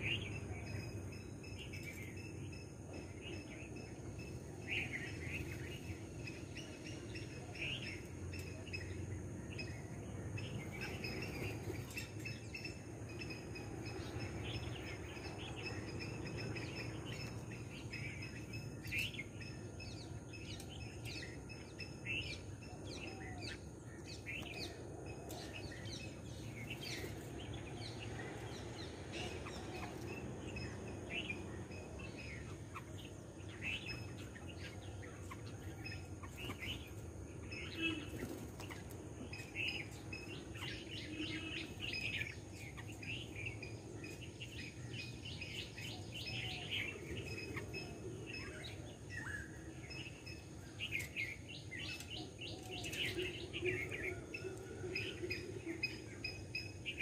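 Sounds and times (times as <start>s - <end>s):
bird chirps: 0.0s - 57.0s
outdoor background noise: 0.0s - 57.0s.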